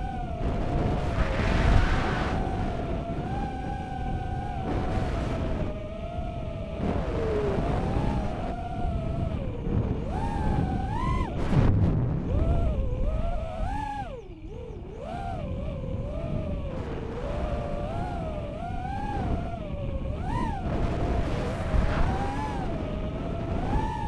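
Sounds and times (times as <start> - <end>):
rush of prop wash and wind: 0.0 - 13.0, 13.7 - 24.0
drone motors buzzing whine: 0.0 - 24.0.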